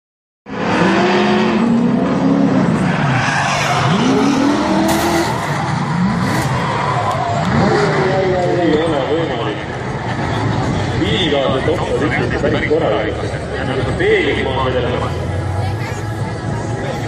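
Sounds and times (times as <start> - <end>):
car engines revving: 0.5 - 17.0
tyres skidding and squealing: 0.5 - 17.0.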